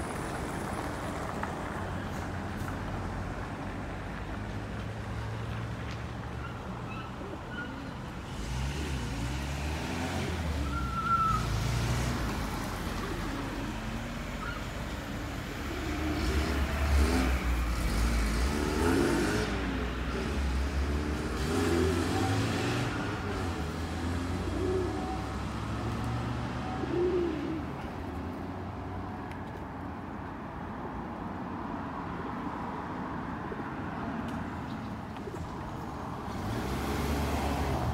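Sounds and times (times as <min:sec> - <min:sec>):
cars passing: 0:00.0 - 0:37.9
road traffic rumbling: 0:00.0 - 0:37.9.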